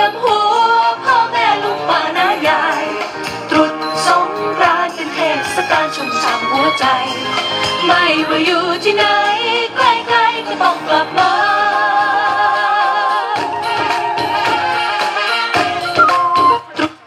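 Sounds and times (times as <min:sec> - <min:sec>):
dance music with singing: 0:00.0 - 0:17.0.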